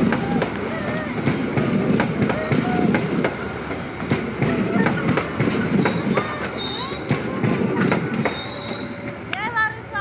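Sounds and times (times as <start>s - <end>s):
train coaches rumbling past: 0.0s - 10.0s
wheels clacking over rail joints: 0.0s - 10.0s.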